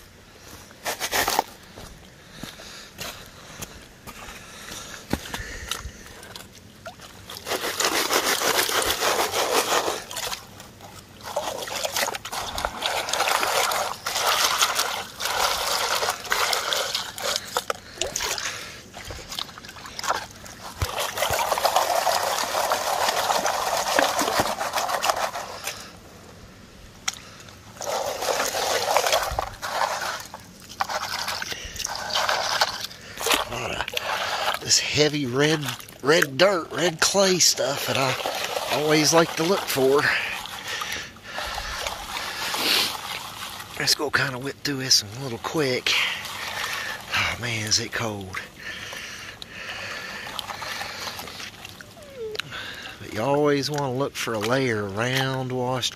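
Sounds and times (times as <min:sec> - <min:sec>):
water sloshing in a plastic pan: 0:00.0 - 0:55.9.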